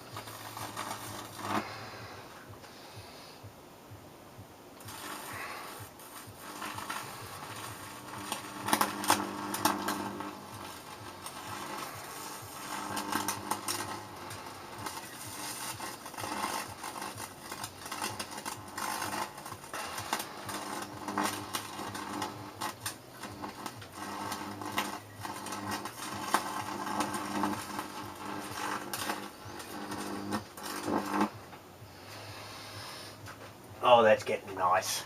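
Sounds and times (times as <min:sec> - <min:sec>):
electric arc crackles and snaps: 0:00.0 - 0:01.9, 0:04.8 - 0:31.6
mains buzz: 0:00.0 - 0:35.0.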